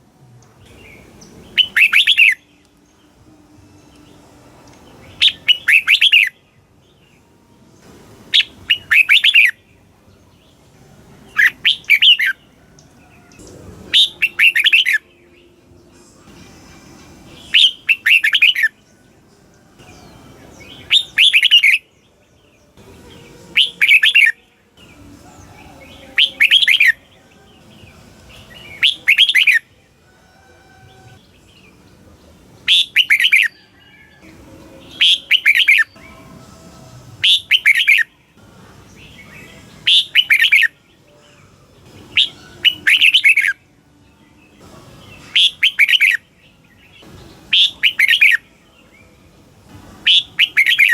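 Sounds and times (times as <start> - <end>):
bird singing chirping phrases: 0.0 - 50.9.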